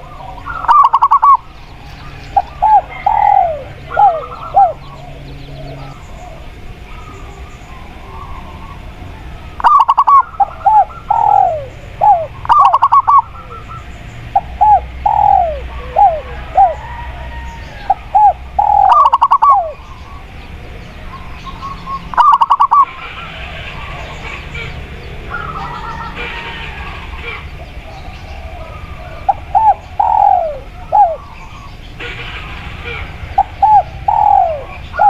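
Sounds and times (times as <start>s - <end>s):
doves cooing: 0.0s - 35.0s
steady background hiss: 0.0s - 35.0s.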